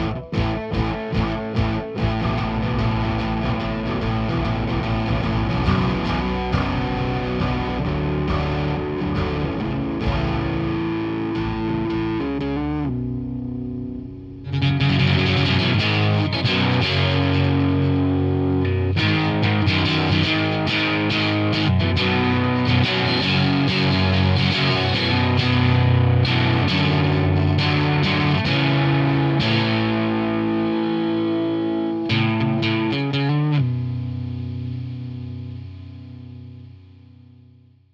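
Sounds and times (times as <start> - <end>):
rock music with distorted guitar: 0.0 - 37.5.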